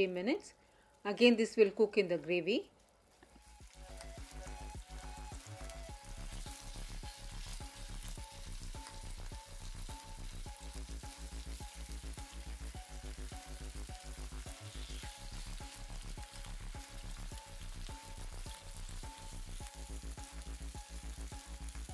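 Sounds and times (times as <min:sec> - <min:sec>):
background music with beat: 0:03.3 - 0:21.9
chicken sizzling in hot oil: 0:03.3 - 0:21.9.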